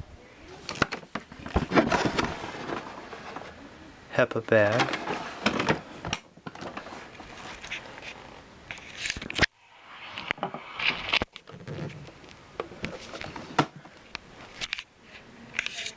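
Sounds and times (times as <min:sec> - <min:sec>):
rustling handling noises: 0:00.5 - 0:09.4, 0:11.0 - 0:15.9.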